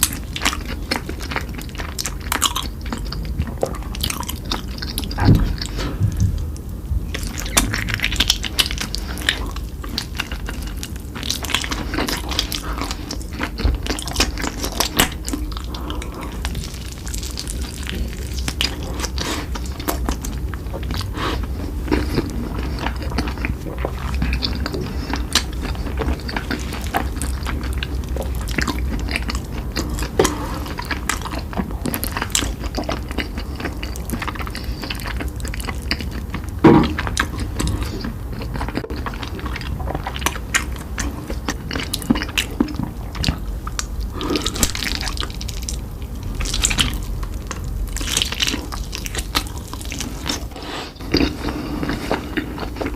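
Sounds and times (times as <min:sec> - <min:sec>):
chewing and biting food: 0:00.0 - 0:52.9.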